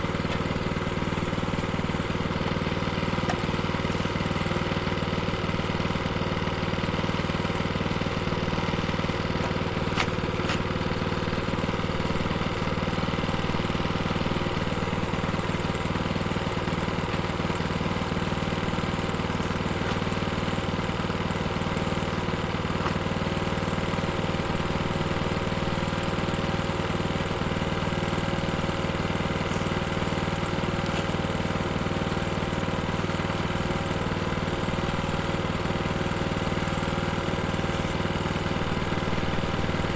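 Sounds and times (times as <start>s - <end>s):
plate compactor engine idling: 0.0s - 39.9s.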